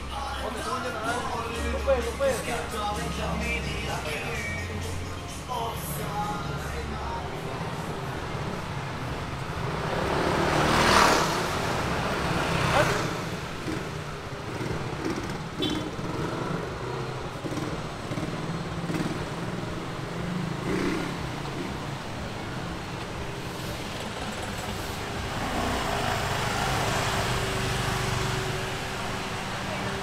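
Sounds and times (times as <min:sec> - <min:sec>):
car engine: 0:00.0 - 0:30.0.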